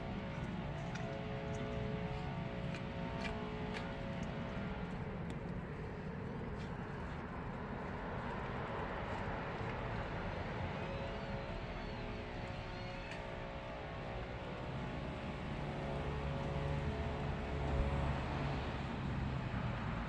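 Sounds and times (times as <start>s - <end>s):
outdoor background rumble and hiss: 0.0s - 20.0s.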